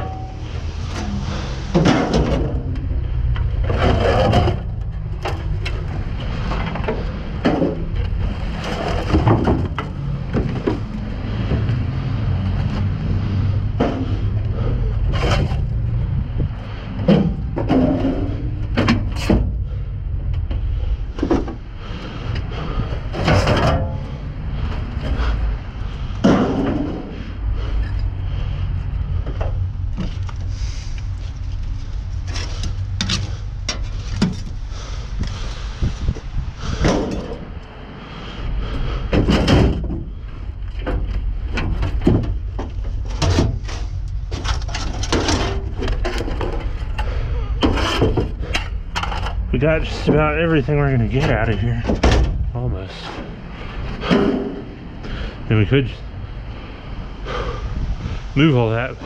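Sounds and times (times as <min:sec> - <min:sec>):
scrap metal clanking and scraping: 0:00.0 - 0:37.6, 0:38.6 - 0:55.4
steady low rumble: 0:00.0 - 0:59.0.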